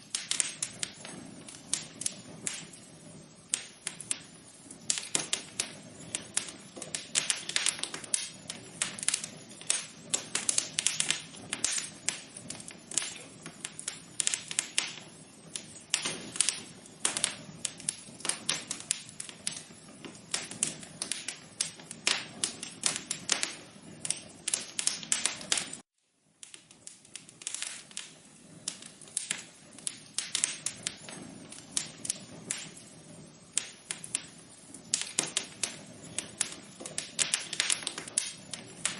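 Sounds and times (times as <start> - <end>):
faint steady hiss: 0.0 - 38.9
wood fire crackling: 0.0 - 38.9.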